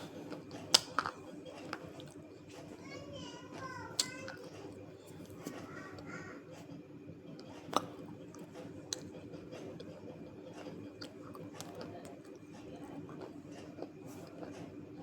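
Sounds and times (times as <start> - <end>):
chewing and crunching clay: 0.0 - 2.8, 3.5 - 6.2, 7.2 - 15.0
steady low hum: 0.0 - 15.0.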